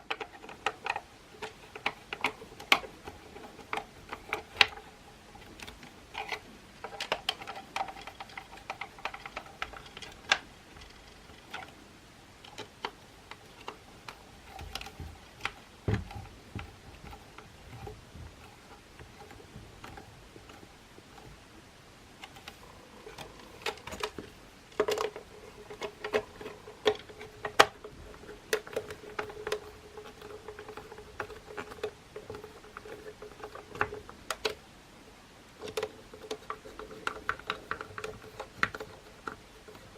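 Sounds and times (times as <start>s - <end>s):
plastic and metal parts clicking: 0.0s - 11.8s, 12.4s - 21.4s, 22.2s - 34.6s, 35.5s - 39.9s
faint steady hum: 0.0s - 39.9s.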